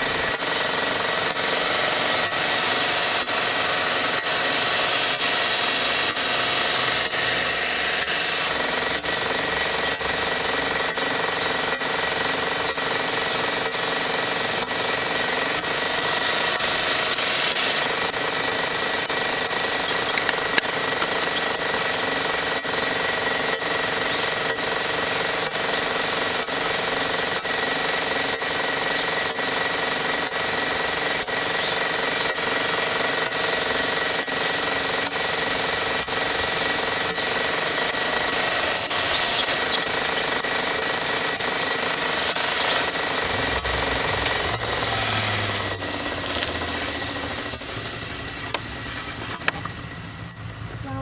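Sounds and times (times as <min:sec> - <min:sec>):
belt sander grinding wood: 0:00.0 - 0:51.0.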